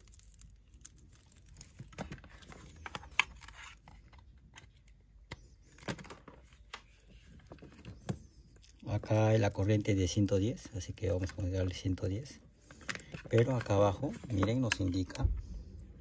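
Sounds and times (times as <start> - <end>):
handling clicks and rustles: 1.4 - 15.2.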